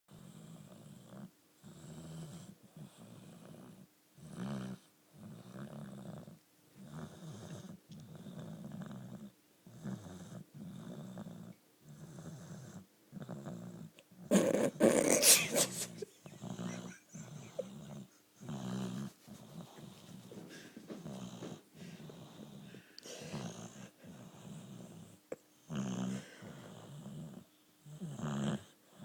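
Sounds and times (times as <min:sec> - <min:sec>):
dog snoring: 0:00.1 - 0:29.0.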